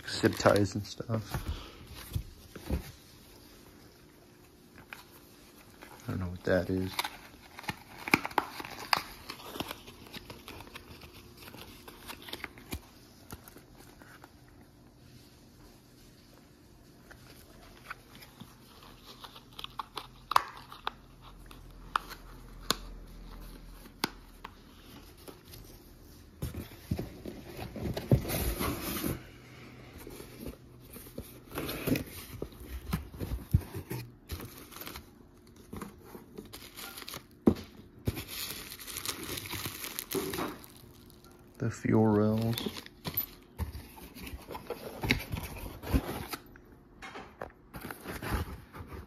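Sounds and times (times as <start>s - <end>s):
packaging crinkling and rustling: 0.0s - 15.1s, 15.8s - 29.2s, 30.0s - 46.6s.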